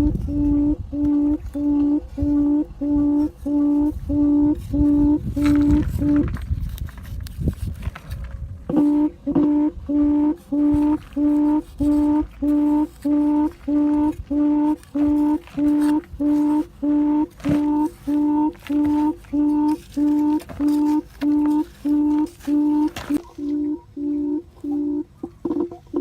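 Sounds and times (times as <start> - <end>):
recorded bird call hooting: 0.0 - 6.3, 8.7 - 26.0.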